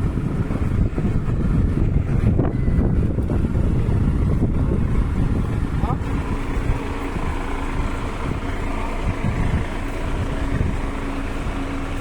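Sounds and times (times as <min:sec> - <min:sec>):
vehicle engine hum: 0:00.0 - 0:12.0
wind buffeting microphone: 0:00.0 - 0:12.0.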